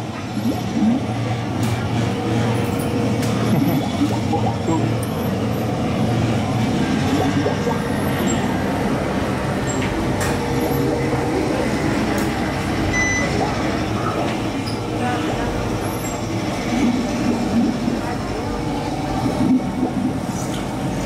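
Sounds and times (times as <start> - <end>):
indistinct overlapping chatter: 0.0 - 21.0.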